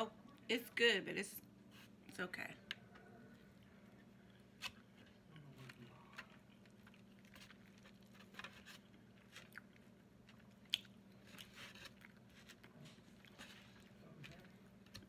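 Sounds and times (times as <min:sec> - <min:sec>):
faint steady hum: 0:00.0 - 0:15.0
person chewing: 0:02.7 - 0:15.0.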